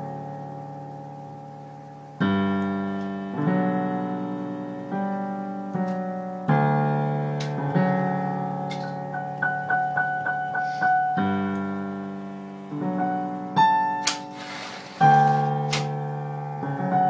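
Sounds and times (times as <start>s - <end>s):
piano playing a minuet: 0.0s - 17.0s.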